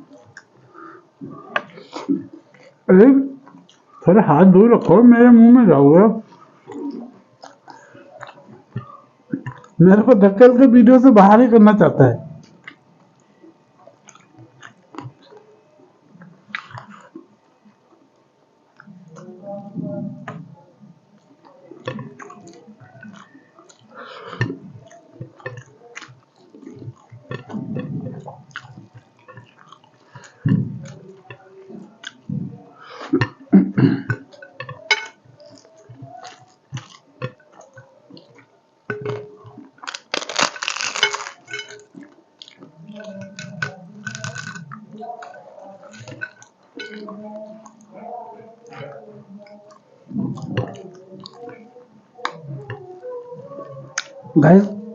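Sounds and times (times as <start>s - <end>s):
chewing and crunching: 0.0s - 4.0s, 6.2s - 9.8s, 12.4s - 15.5s, 16.1s - 19.4s, 21.2s - 32.6s, 34.0s - 54.8s.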